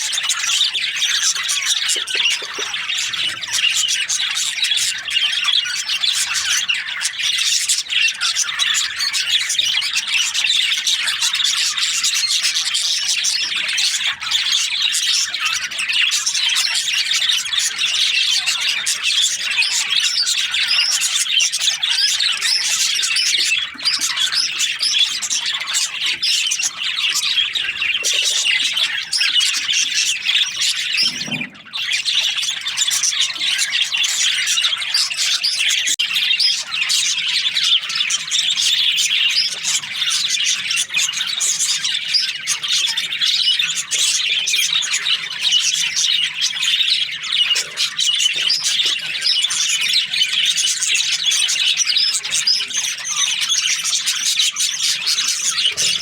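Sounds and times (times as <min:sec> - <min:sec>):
budgies chirping and chattering: 0:00.0 - 0:56.0.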